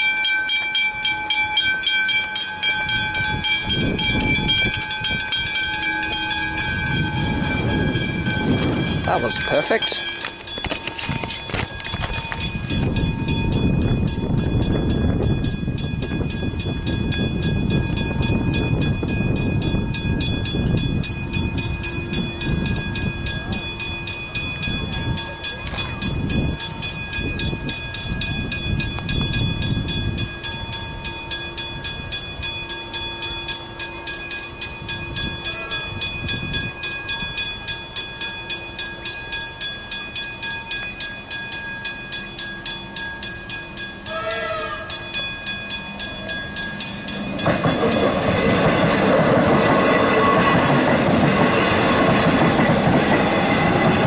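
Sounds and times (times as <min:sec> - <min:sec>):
level crossing warning bells: 0:00.0 - 0:54.0
passing train rumbling: 0:00.0 - 0:54.0.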